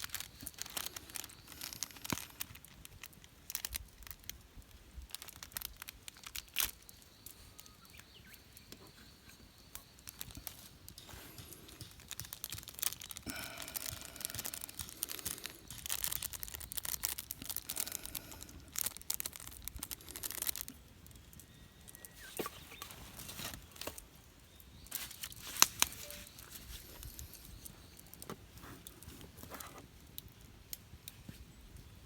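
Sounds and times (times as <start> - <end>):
crinkly rustling and crackling: 0.0 - 32.0.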